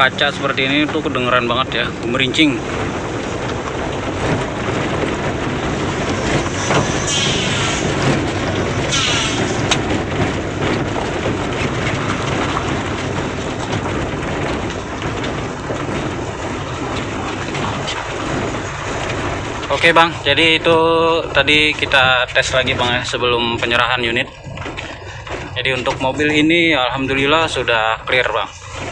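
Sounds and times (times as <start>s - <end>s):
car engine and tyre rumble: 0.0s - 28.9s.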